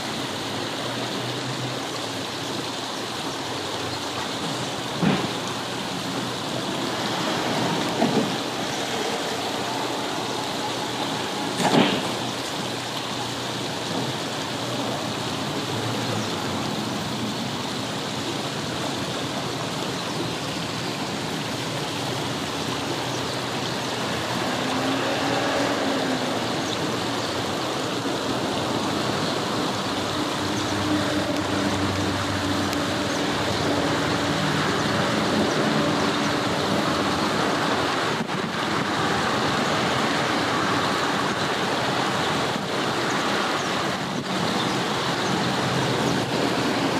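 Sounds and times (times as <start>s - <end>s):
distant road traffic hum: 0.0s - 46.9s
river water running over stones: 0.0s - 46.9s.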